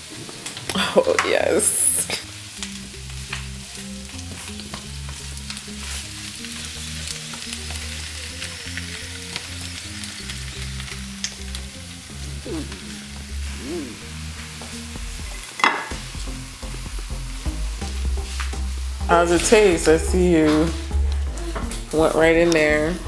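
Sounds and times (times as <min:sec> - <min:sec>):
food sizzling in a frying pan: 0:00.0 - 0:22.8
background music with bass: 0:00.8 - 0:23.0.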